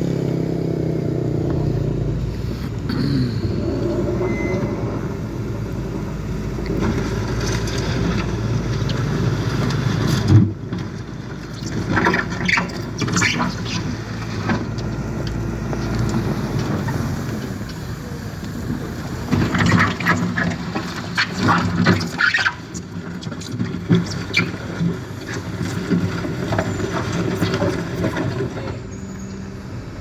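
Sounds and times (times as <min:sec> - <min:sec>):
distant voices: 0:00.0 - 0:30.0
vehicle engine running: 0:00.0 - 0:30.0.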